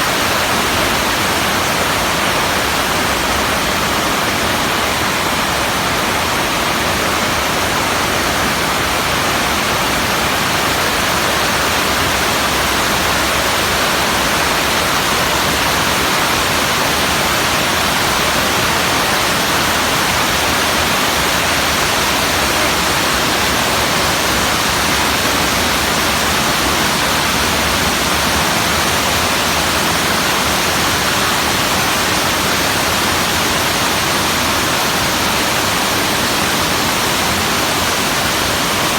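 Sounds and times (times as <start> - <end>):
water rushing over waterfall: 0.0 - 38.9.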